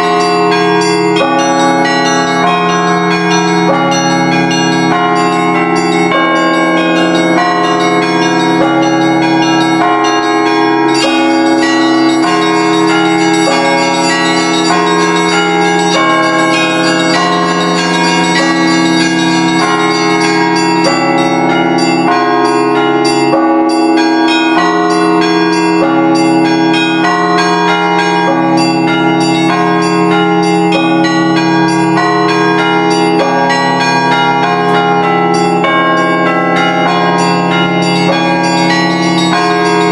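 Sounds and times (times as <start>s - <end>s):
large bells ringing: 0.0s - 39.9s
small church bells: 0.0s - 39.9s.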